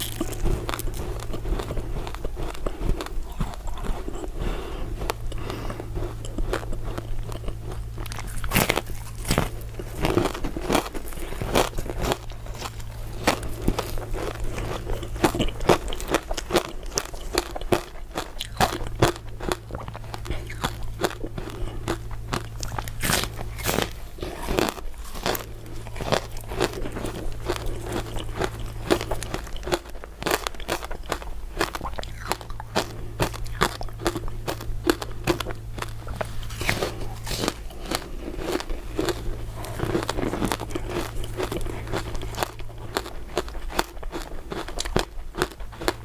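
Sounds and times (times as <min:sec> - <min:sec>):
crunching ice while chewing: 0:00.0 - 0:46.0.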